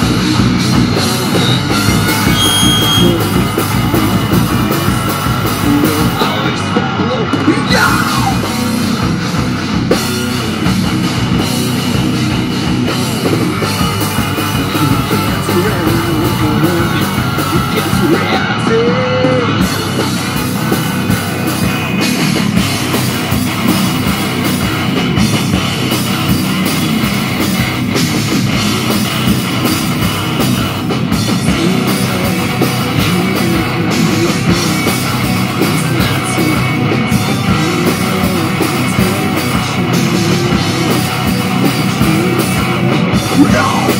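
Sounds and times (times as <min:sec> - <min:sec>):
bass guitar: 0:00.0 - 0:43.9
distorted electric guitars: 0:00.0 - 0:43.9
drum kit: 0:00.0 - 0:43.9.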